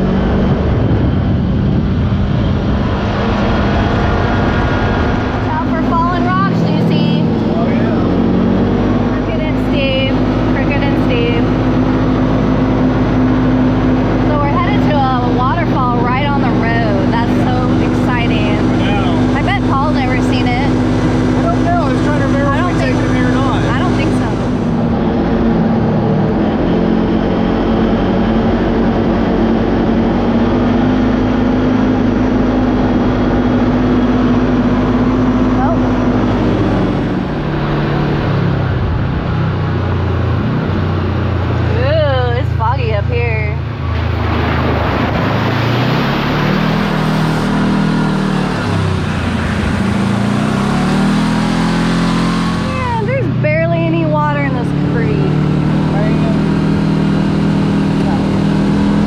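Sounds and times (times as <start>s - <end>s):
tyre and drivetrain noise: 0.0s - 59.0s
vehicle engine running: 0.0s - 59.0s.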